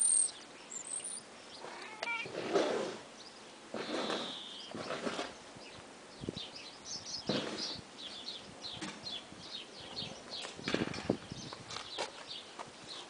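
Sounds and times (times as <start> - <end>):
small birds twittering: 0.0 - 13.0.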